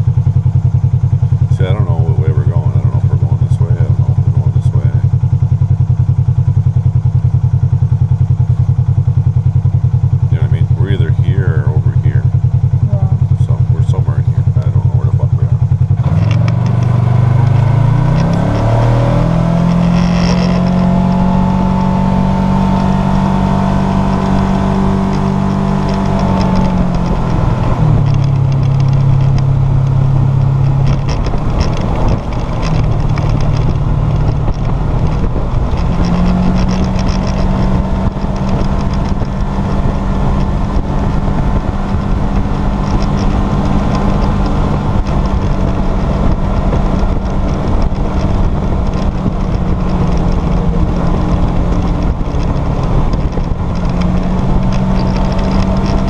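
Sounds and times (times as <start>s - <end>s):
vehicle engine running: 0.0s - 56.0s
wind and road noise: 0.0s - 56.0s.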